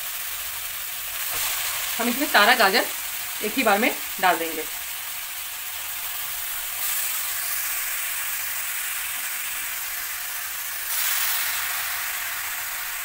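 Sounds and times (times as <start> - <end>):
carrots sizzling in hot fat: 0.0 - 13.0.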